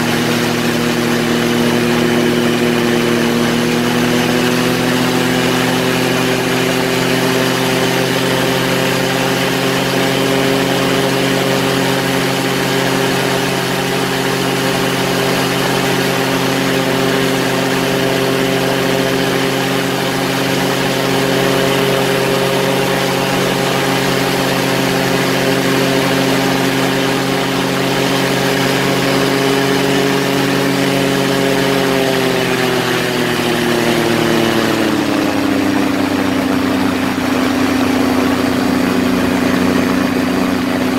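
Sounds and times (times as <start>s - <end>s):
ultralight engine and propeller: 0.0s - 40.9s.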